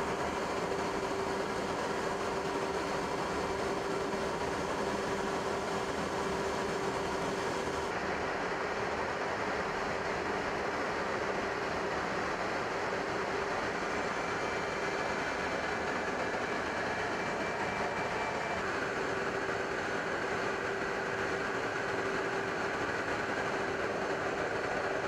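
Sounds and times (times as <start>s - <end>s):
jet aircraft engine drone: 0.0s - 25.0s.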